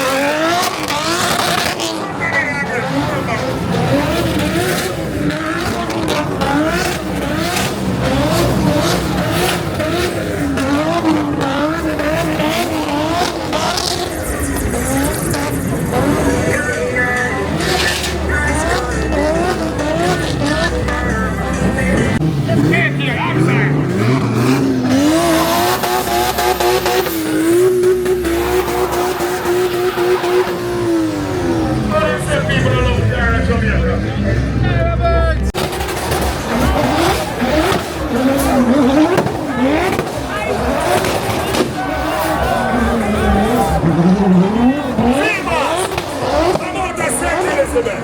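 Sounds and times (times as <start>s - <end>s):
car engine revving: 0.0s - 48.0s
tyres squealing: 0.0s - 48.0s.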